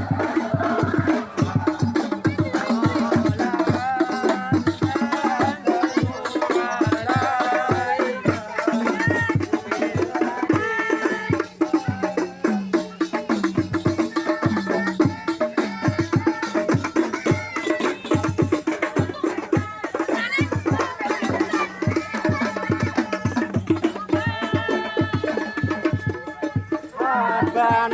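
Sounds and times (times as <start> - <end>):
devotional singing: 0.0 - 27.9
fast drum and percussion beat: 0.0 - 27.9.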